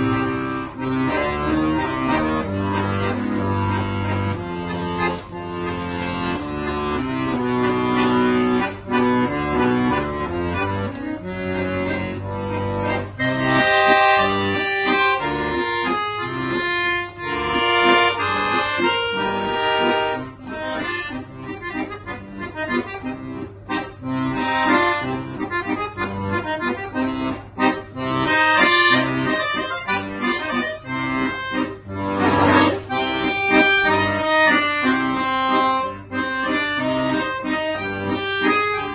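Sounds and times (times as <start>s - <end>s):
solo accordion playing: 0.0s - 38.9s.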